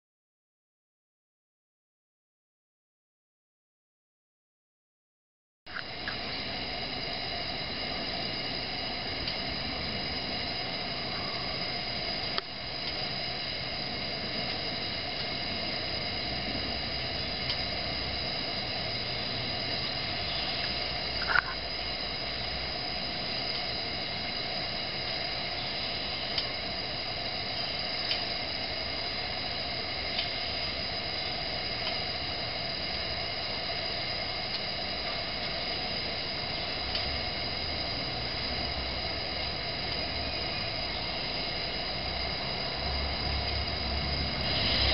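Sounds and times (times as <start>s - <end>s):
gas lantern hissing: 5.7s - 44.9s.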